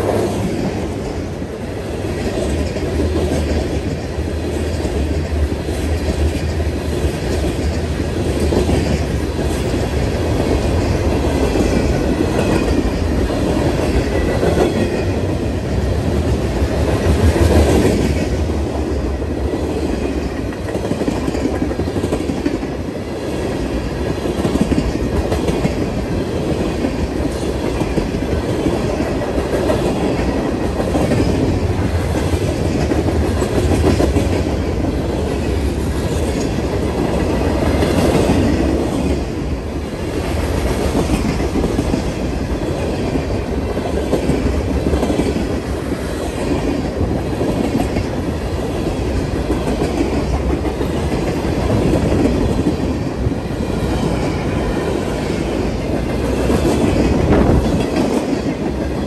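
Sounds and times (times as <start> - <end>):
freight train wheels rumbling: 0.0 - 59.0
wheels clicking on rail joints: 0.1 - 59.0.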